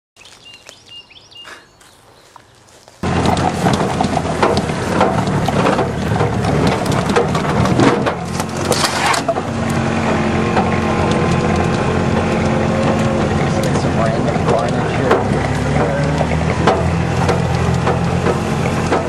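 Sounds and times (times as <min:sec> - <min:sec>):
golf cart rattling and knocking: 0:03.0 - 0:19.0.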